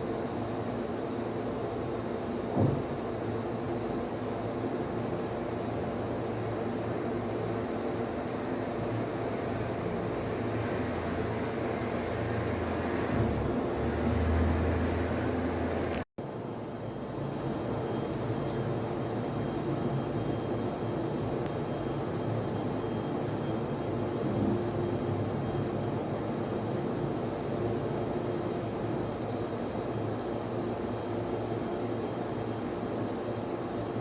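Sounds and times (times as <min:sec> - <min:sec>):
cooling fans whirring: 0:00.0 - 0:34.0.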